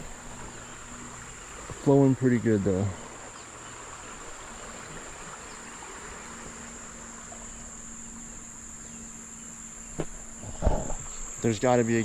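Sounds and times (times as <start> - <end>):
creek flowing: 0.0 - 12.0
insects droning: 0.0 - 12.0.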